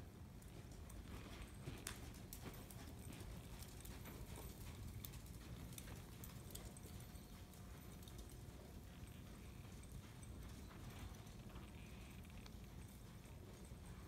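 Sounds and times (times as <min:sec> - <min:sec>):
low steady background rumble: 0:00.0 - 0:14.0
horse hoofbeats on sand: 0:00.5 - 0:14.0.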